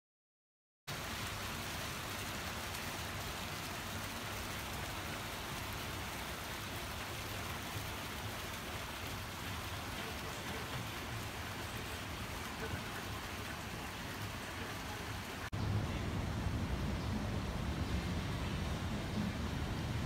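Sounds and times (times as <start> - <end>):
fountain water splashing: 0.9 - 20.0.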